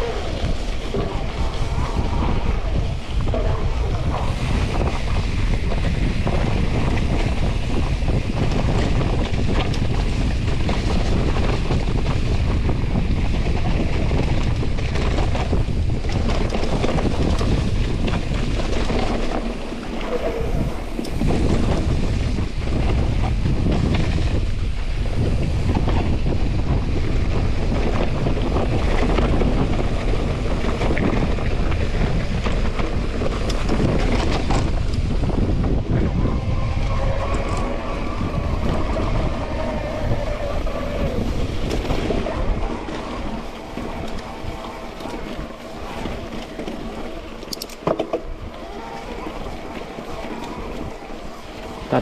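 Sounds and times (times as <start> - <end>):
bike rolling over wet trail: 0.0 - 52.0
wind buffeting microphone: 0.0 - 52.0.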